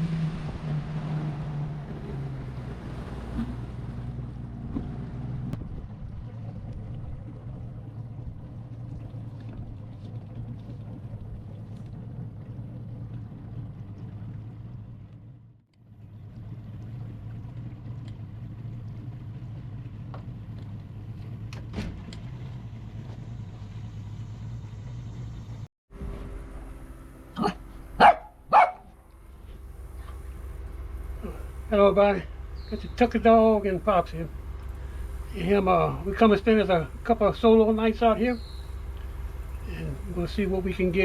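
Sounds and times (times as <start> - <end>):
boat motor humming: 0.0 - 41.0.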